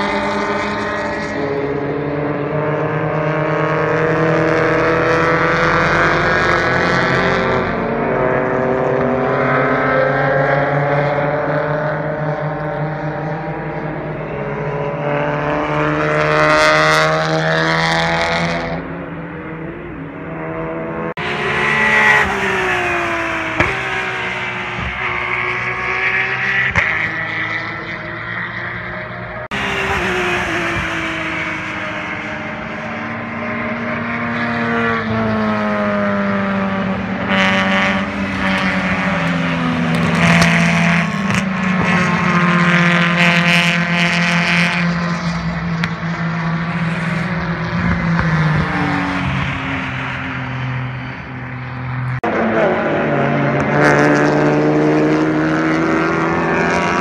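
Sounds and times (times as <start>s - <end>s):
racing car engines passing by: 0.0s - 57.0s.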